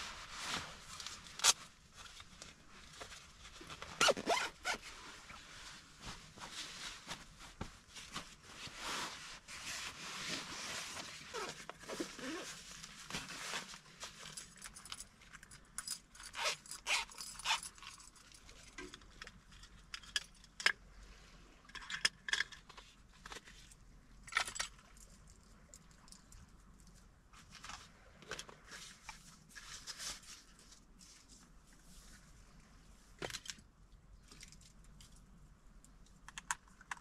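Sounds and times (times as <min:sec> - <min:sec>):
rustling and scraping: 0:00.0 - 0:33.6.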